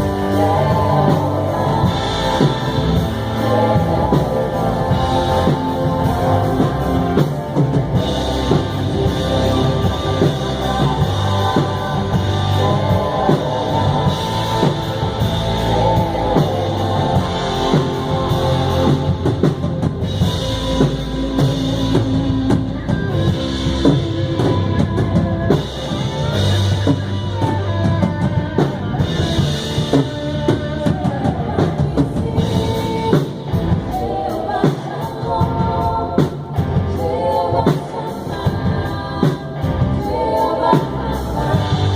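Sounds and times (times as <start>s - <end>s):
guitar playing: 0.0s - 37.1s
drum kit beat: 0.0s - 41.9s
person singing: 0.0s - 41.9s.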